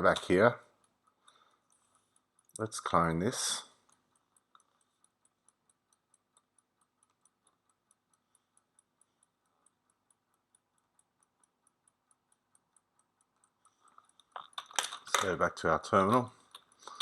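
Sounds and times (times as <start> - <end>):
kitchen timer ticking: 0.0 - 17.0.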